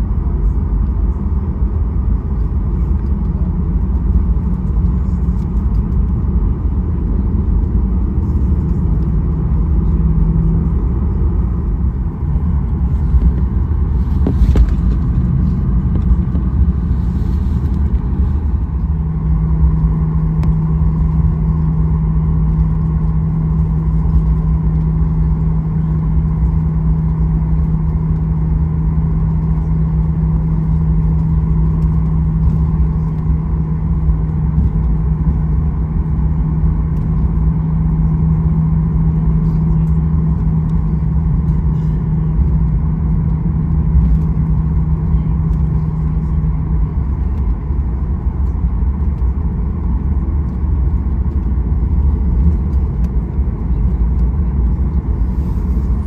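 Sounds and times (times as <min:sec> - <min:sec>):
airliner cabin rumble: 0:00.0 - 0:56.0
steady hum: 0:00.0 - 0:56.0.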